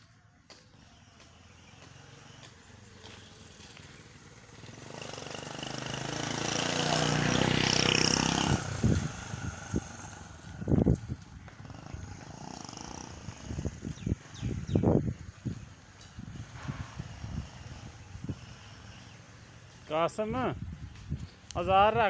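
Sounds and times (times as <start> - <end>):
motorcycle engine passing: 0.8 - 15.6, 16.2 - 19.8.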